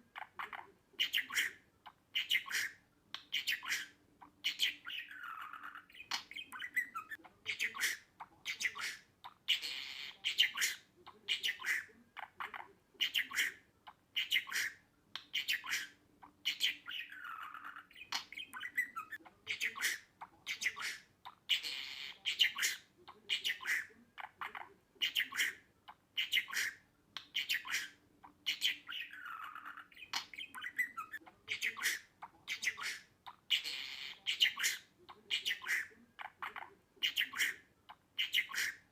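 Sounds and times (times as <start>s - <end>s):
budgerigar chattering: 0.1s - 38.9s.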